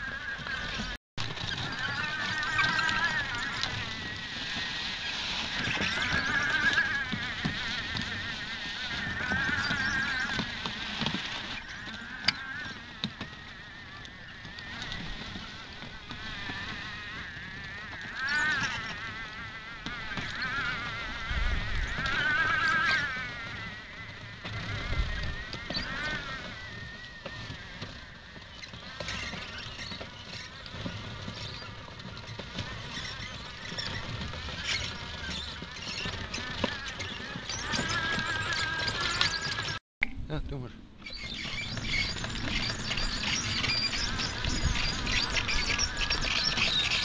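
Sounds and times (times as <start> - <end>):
toy tank motor whining: 0.0 - 30.6, 32.6 - 39.8, 41.2 - 47.0.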